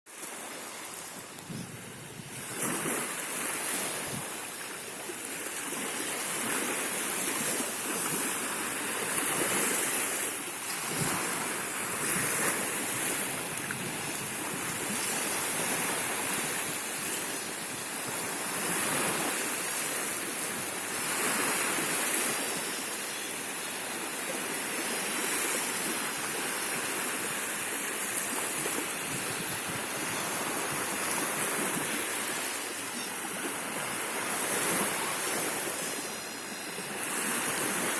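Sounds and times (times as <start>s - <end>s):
sea waves washing in: 0.1s - 37.9s.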